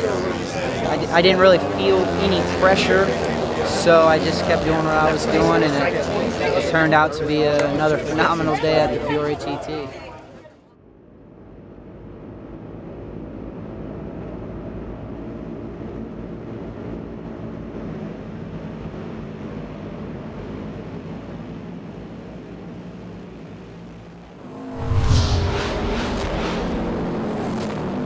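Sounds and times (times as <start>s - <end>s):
motorcycle engines droning: 0.0s - 10.5s, 12.0s - 28.0s.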